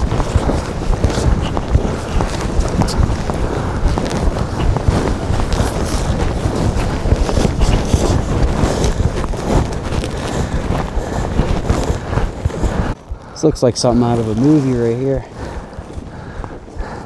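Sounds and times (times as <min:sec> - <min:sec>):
footsteps crunching through snow: 0:00.0 - 0:17.0
wind buffeting microphone: 0:00.0 - 0:17.0.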